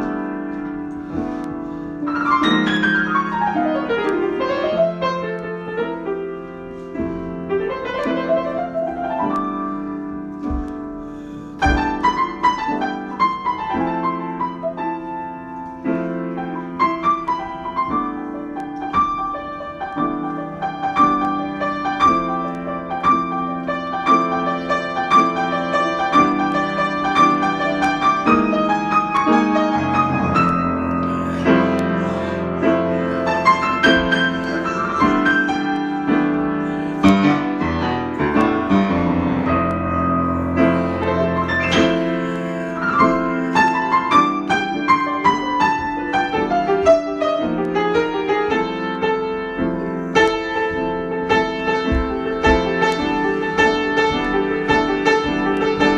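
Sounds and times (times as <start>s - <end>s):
solo piano: 0.0s - 55.9s.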